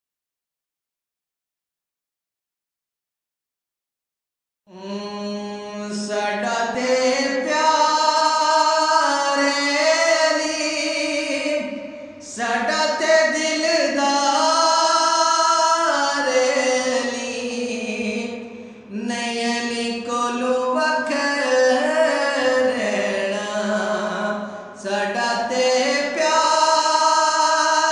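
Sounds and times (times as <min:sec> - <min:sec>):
man singing devotional poetry: 0:04.7 - 0:27.9.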